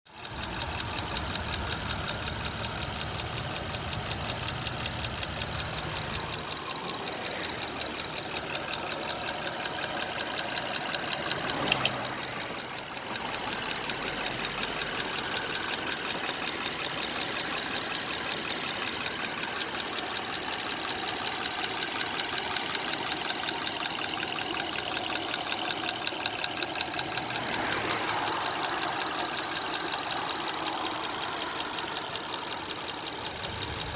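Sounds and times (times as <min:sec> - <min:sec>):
car engine idling: 0:00.0 - 0:33.9
fast engine ticking: 0:00.0 - 0:33.9.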